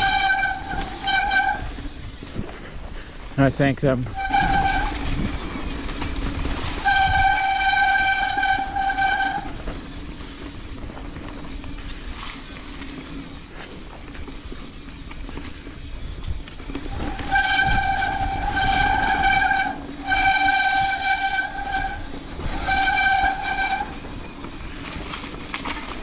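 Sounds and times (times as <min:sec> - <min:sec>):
bike hub buzzing: 0:00.0 - 0:03.3, 0:04.1 - 0:26.0
tyres rumbling on trail: 0:00.0 - 0:26.0.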